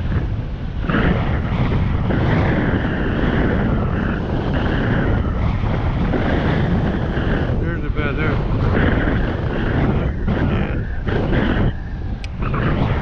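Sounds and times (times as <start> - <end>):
motorbike running: 0.0 - 13.0
wind on microphone: 0.0 - 13.0.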